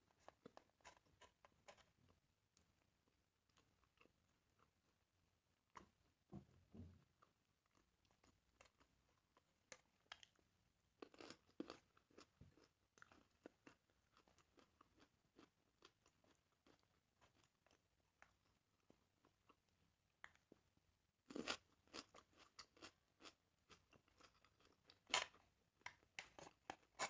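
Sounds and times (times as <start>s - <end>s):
person chewing and crunching food: 0.0s - 5.0s, 7.2s - 27.0s.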